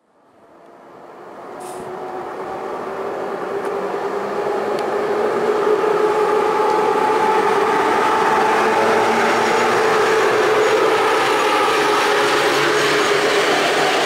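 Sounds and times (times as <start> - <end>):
multi-tone train hum: 0.0 - 14.0
train rumble: 1.0 - 14.0.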